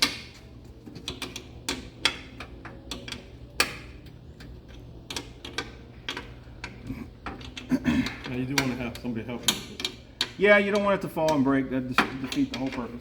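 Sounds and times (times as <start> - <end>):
wrench clicking on bolts: 1.0 - 13.0.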